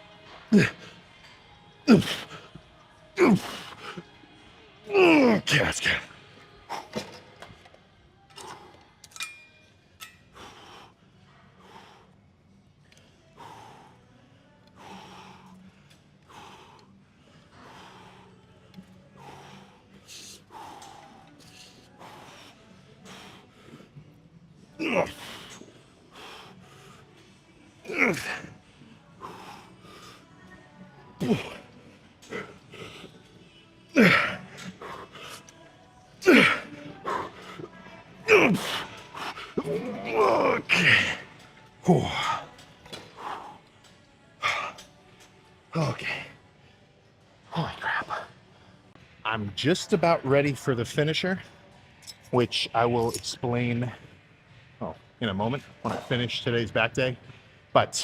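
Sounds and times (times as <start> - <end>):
faint background music: 0.0 - 58.0.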